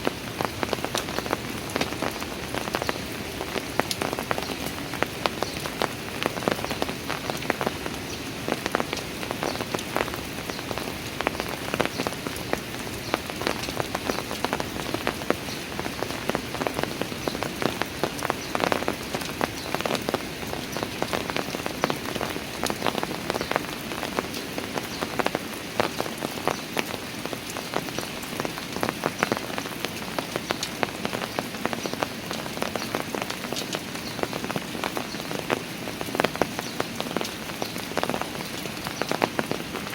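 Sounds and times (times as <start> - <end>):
rain pattering on stairs: 0.0 - 39.9.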